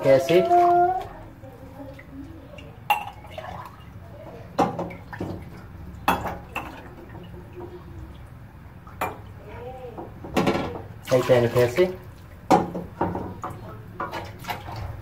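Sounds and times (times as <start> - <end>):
water drips and light knocks: 0.0 - 15.0.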